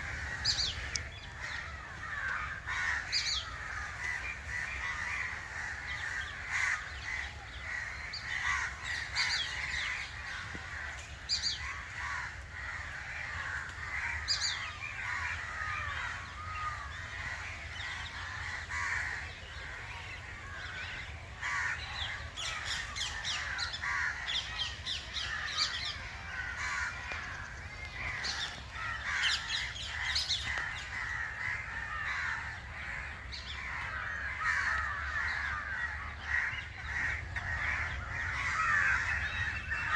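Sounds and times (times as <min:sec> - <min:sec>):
crows cawing: 0:00.0 - 0:39.9
small birds chirping: 0:00.0 - 0:39.9.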